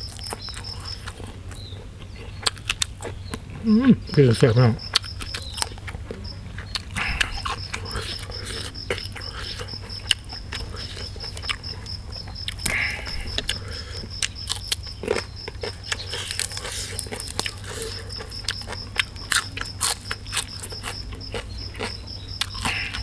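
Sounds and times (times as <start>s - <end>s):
insect chirping: 0.0s - 23.0s
man chewing food: 0.0s - 23.0s.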